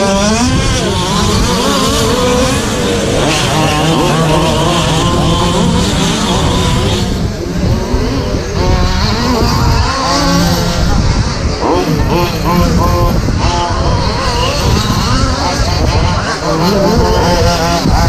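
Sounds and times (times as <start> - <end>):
rc truck motors whining: 0.0 - 18.0.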